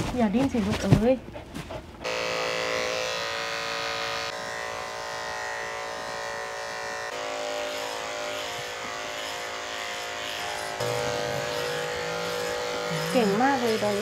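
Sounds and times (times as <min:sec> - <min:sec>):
electric clippers buzzing: 0:02.0 - 0:14.0.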